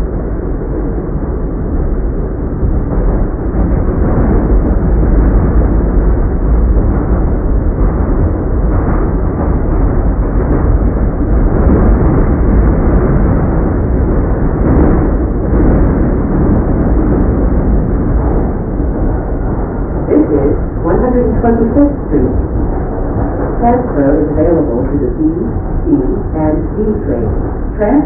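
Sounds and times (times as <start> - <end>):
subway train wheels rumbling: 0.0 - 28.0
train rattling and clatter: 0.0 - 28.0.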